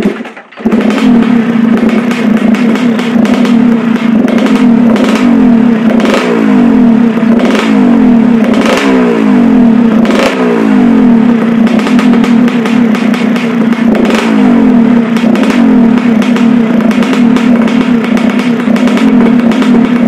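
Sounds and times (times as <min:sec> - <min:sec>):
two-stroke engine idling and revving: 0:00.0 - 0:20.0.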